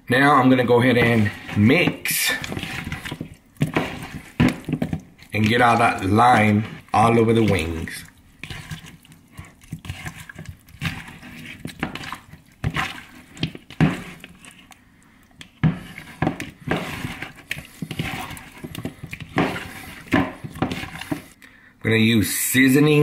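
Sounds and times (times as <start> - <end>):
wet squishing and sloshing: 0.2 - 21.4.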